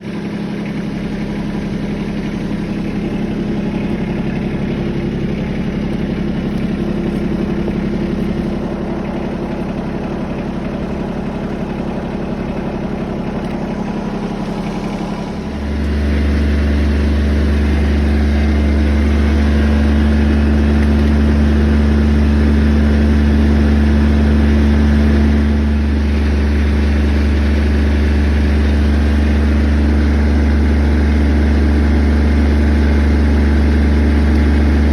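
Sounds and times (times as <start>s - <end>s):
heavy equipment engine running: 0.0s - 34.9s.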